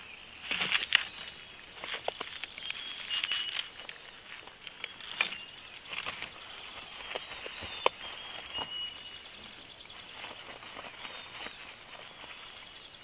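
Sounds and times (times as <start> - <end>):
small birds chirping: 0.0 - 13.0
sticks clicking and rustling: 0.5 - 12.6.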